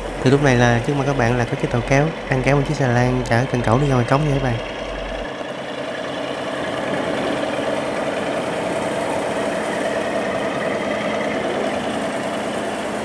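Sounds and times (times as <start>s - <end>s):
tugboat engine droning: 0.0s - 13.0s.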